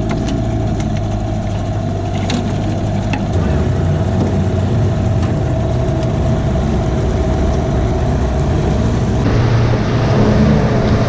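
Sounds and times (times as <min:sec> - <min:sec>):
outboard motor running: 0:00.0 - 0:11.0
water against boat hull: 0:00.0 - 0:11.0.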